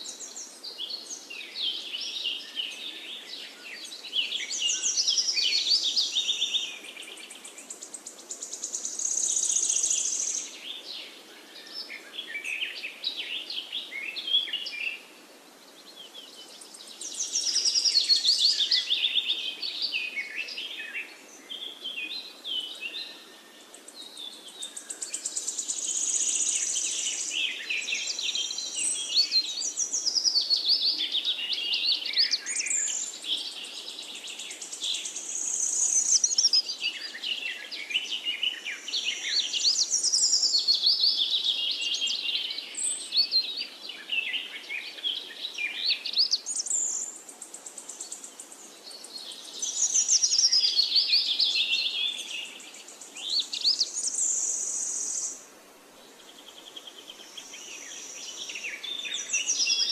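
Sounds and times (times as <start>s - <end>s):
birdsong chirps and trills: 0.0s - 59.9s.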